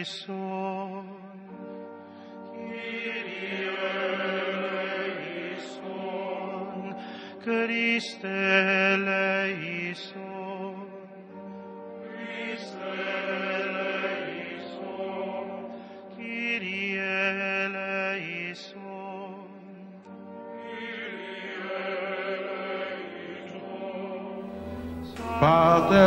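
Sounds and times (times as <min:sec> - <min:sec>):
voices singing slow chant: 0:02.4 - 0:26.0.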